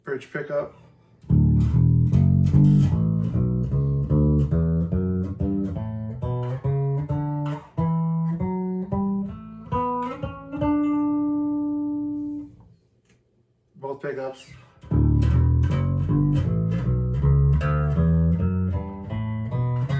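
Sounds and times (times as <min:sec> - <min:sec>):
electric bass notes: 0:01.2 - 0:12.6, 0:14.8 - 0:19.9.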